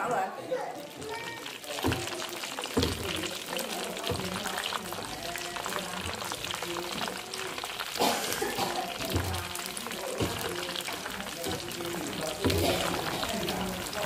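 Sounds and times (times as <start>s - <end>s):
food sizzling in hot oil: 0.4s - 14.0s
skimmer knocking and scraping pan: 0.8s - 14.0s.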